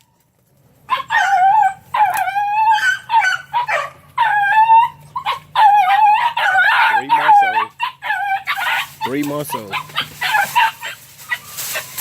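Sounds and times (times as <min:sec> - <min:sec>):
puppies yelping and howling: 0:00.0 - 0:12.0.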